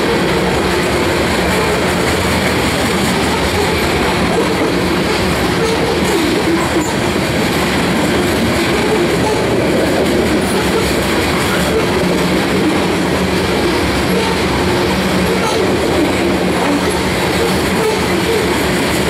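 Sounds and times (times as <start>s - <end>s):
freight train wheels rolling: 0.0s - 19.0s.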